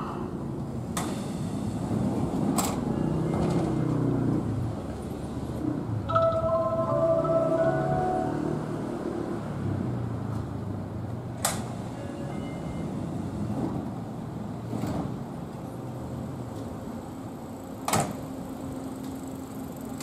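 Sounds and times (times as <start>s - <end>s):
train low hum: 0.0s - 20.0s.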